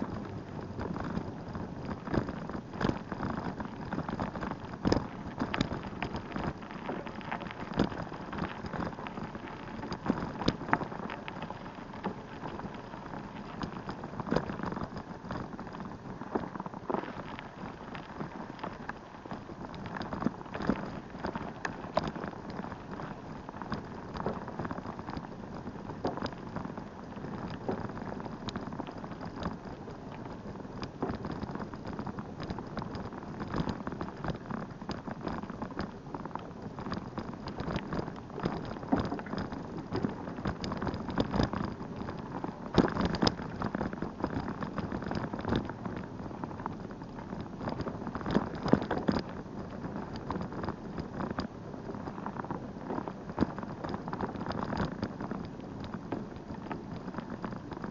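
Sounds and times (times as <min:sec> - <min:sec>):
bicycle jolts: 0:00.0 - 0:57.9
bicycle rattling in motion: 0:00.0 - 0:57.9.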